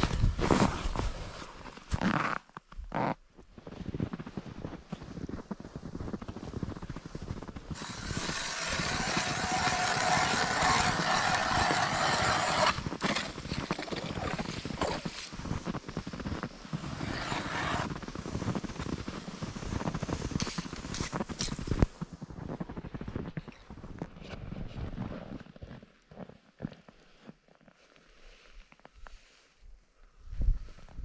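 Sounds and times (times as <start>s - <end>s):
footsteps crunching in snow: 0.0s - 29.8s.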